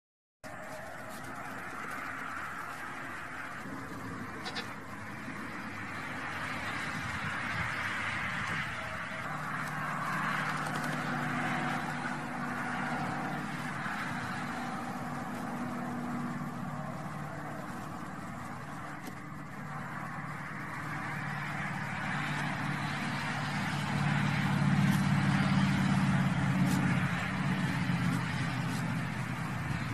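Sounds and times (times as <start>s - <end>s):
engine running steadily: 0.5s - 29.9s
road or wind noise hiss: 0.5s - 29.9s.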